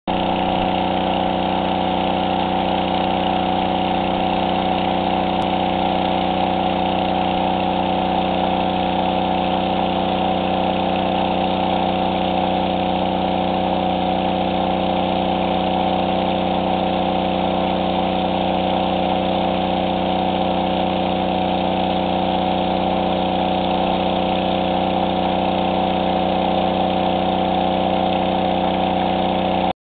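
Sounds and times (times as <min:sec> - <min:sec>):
water gushing from hose: 0:00.1 - 0:29.7
water pump engine running: 0:00.1 - 0:29.7.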